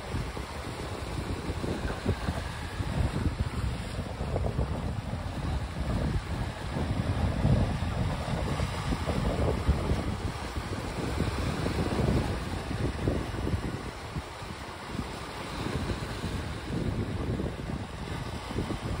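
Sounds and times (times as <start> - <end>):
waves washing over pebbles: 0.0 - 19.0
wind rumbling on microphone: 0.0 - 19.0.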